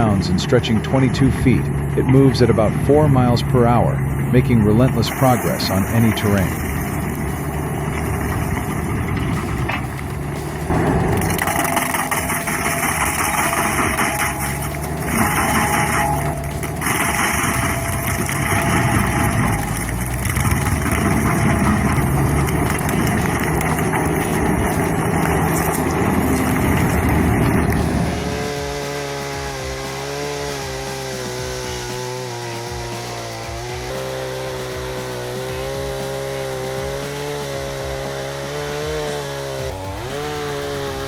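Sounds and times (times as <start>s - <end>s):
chainsaw engine running: 0.0s - 41.0s
heavy machine grinding: 4.0s - 41.0s.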